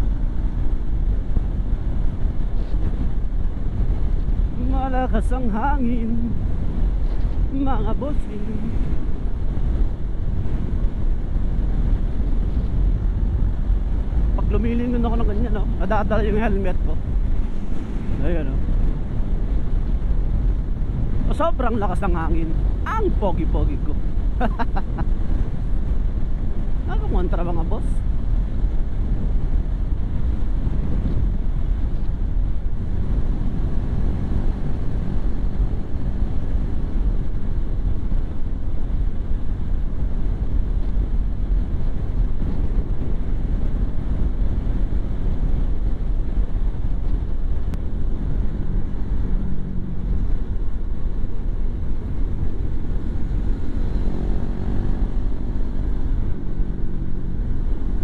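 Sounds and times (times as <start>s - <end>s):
motorcycle running: 0.0s - 58.0s
wind buffeting microphone: 0.0s - 58.0s.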